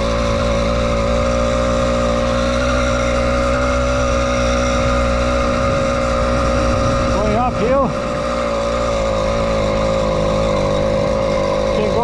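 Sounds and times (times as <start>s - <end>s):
two-stroke engine buzzing: 0.0s - 12.0s.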